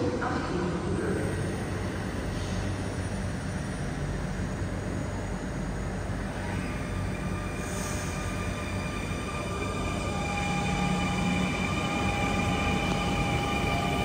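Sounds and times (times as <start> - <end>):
train running gear rumble: 0.0 - 14.0.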